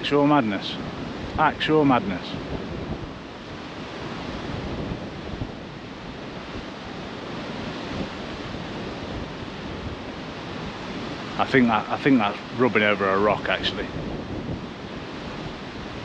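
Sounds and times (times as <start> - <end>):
sea surf washing on beach: 0.0 - 16.0
wind buffeting microphone: 0.0 - 16.0.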